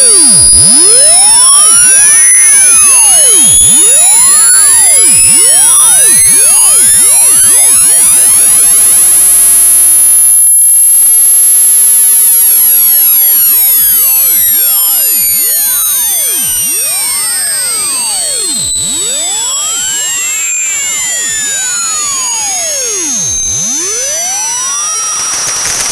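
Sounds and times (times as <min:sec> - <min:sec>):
distorted high-pitched electronic tone: 0:00.0 - 0:25.9.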